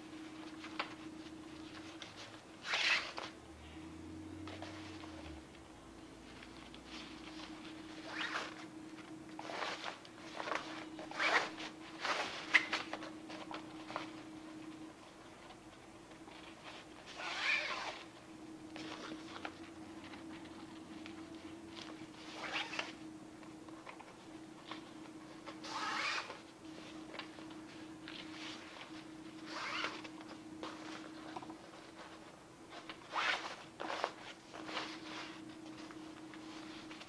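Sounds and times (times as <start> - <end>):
cord and fabric rustling: 0.0 - 37.0
faint steady hum: 0.0 - 37.0.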